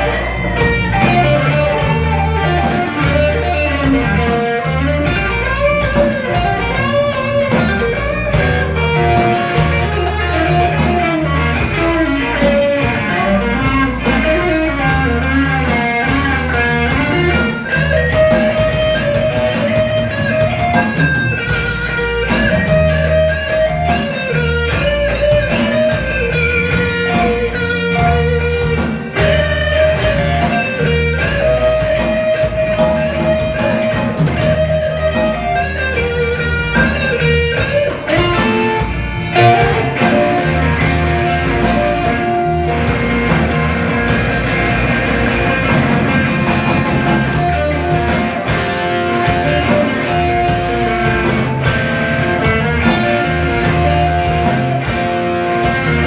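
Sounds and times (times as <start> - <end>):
bass guitar: 0.0 - 56.0
electric guitar lead: 0.0 - 56.0
steady drum beat: 0.0 - 56.0.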